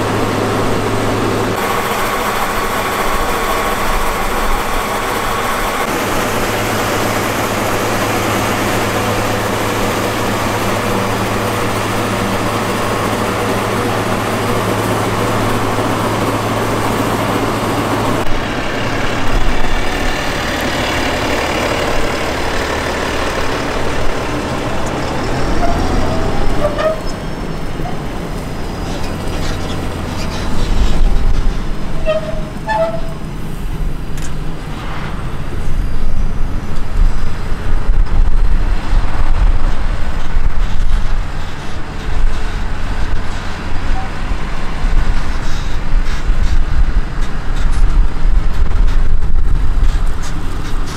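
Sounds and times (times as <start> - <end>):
vehicle engine humming: 0.0 - 50.9.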